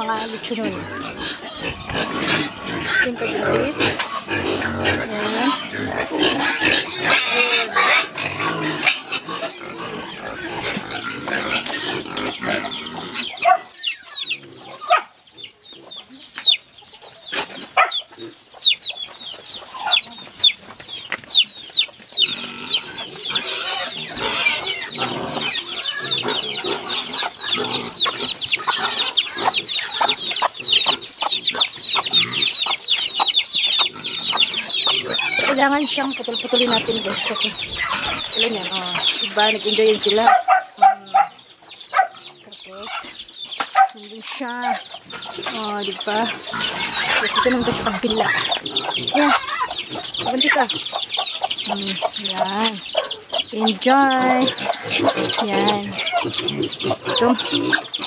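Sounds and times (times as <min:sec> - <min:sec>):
chickens clucking and peeping: 0:00.0 - 0:58.0.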